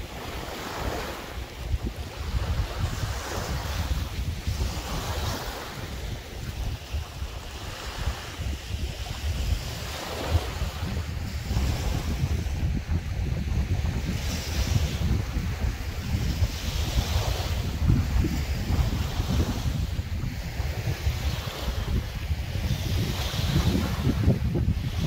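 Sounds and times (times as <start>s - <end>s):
waves washing against rocks: 0.0s - 25.0s
wind buffeting microphone: 0.0s - 25.0s.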